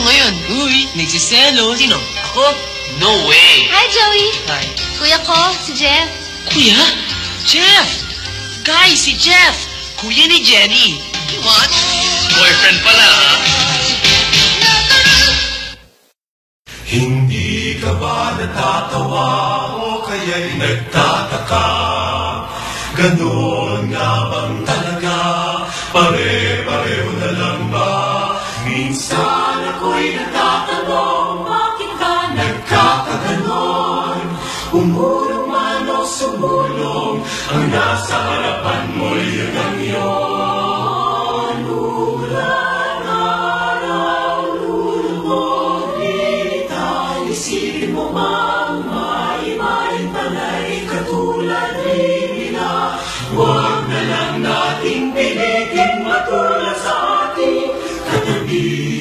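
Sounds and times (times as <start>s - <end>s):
choir singing with music: 0.0s - 15.8s, 16.7s - 59.0s.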